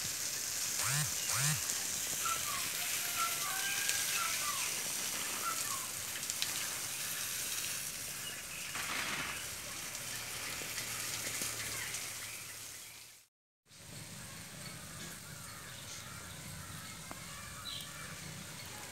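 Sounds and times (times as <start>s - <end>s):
chicken sizzling on a grill: 0.0s - 0.8s, 1.6s - 18.9s.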